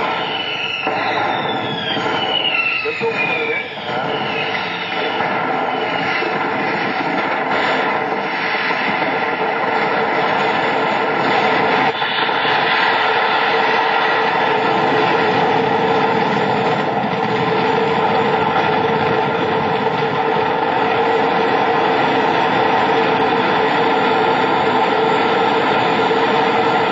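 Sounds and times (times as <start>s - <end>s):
fire roaring: 0.0s - 26.9s.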